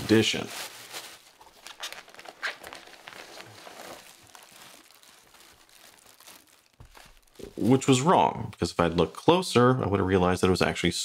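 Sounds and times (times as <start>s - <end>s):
bubble wrap crinkling: 0.0s - 9.2s.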